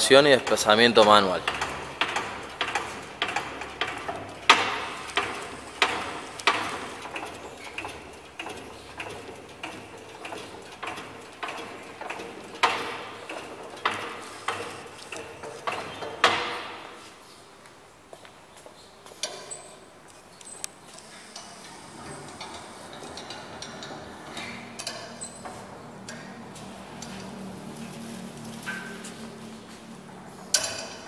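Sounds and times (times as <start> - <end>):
hydraulic pump metallic clacks: 0.0 - 17.2, 19.1 - 19.9, 20.9 - 31.0.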